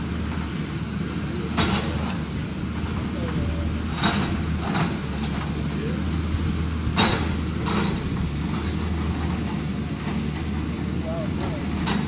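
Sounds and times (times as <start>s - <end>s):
demolition machinery engine hum: 0.0s - 12.0s.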